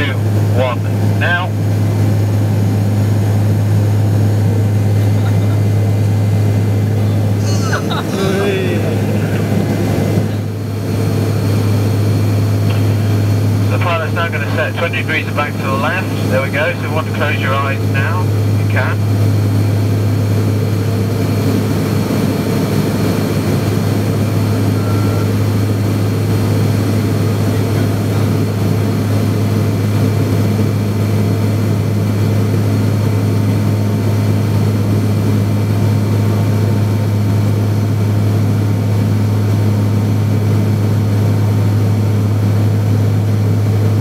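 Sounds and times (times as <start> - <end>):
turboprop cabin drone: 0.0 - 44.0.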